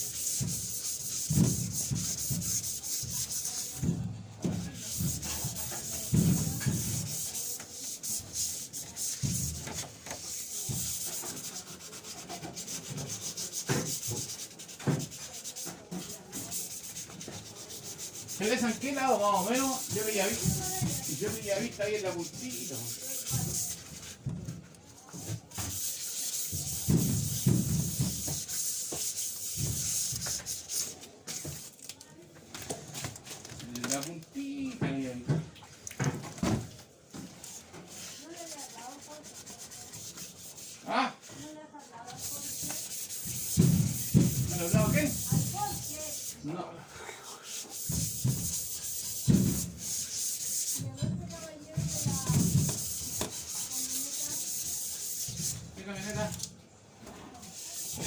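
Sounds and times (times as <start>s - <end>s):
sandpaper rubbing on sheet metal: 0.0s - 24.3s, 25.0s - 31.8s, 37.2s - 46.5s, 47.4s - 56.5s, 57.4s - 58.0s.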